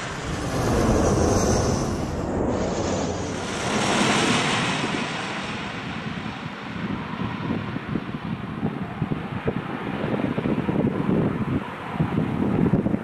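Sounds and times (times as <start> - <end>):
jet engine whine and rush: 0.0 - 13.0
wind buffeting microphone: 0.0 - 13.0.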